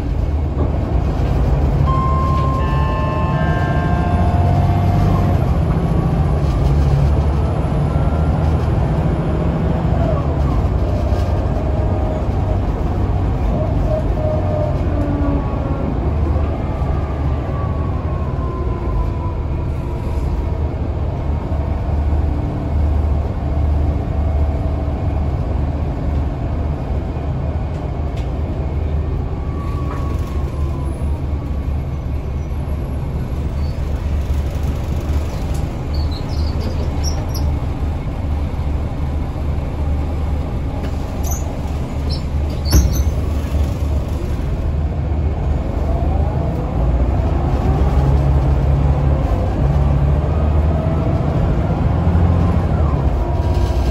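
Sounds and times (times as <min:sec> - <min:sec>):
bus engine droning: 0:00.0 - 0:53.9.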